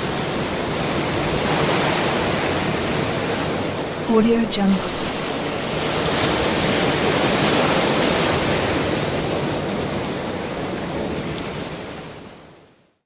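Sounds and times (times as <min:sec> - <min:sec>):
ocean waves rushing: 0:00.0 - 0:10.7.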